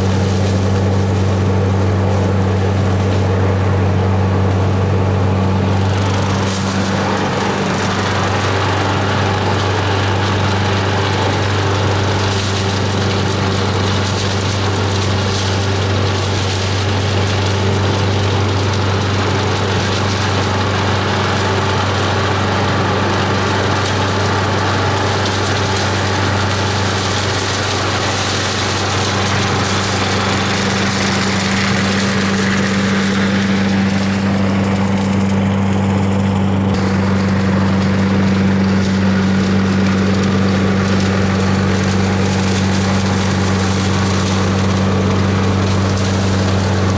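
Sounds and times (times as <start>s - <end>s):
vacuum cleaner sucking leaves: 0.0s - 46.9s.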